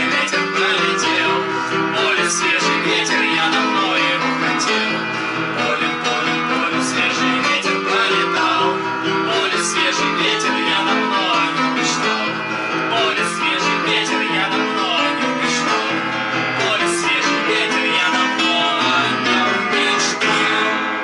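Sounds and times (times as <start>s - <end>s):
piano: 0.0s - 21.0s.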